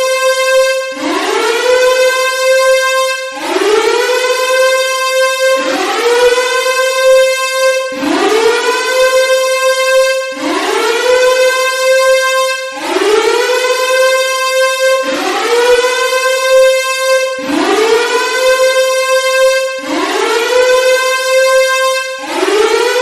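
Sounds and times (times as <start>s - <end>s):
warning siren wailing: 0.0s - 23.0s.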